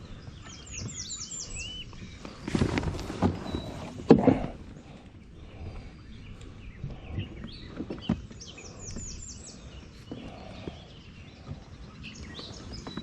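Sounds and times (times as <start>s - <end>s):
low outdoor background: 0.0s - 13.0s
songbird singing: 0.0s - 13.0s.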